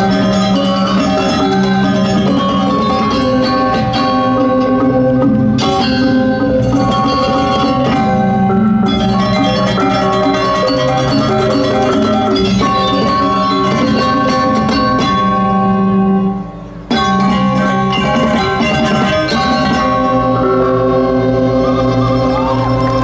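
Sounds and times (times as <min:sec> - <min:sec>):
gamelan ensemble playing: 0:00.0 - 0:23.0
metallophones ringing: 0:00.0 - 0:23.0.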